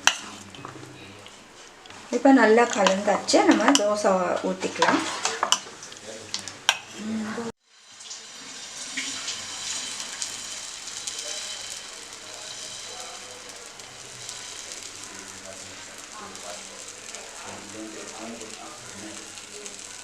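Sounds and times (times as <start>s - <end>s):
batter sizzling on a griddle: 0.0s - 7.0s, 7.6s - 20.0s.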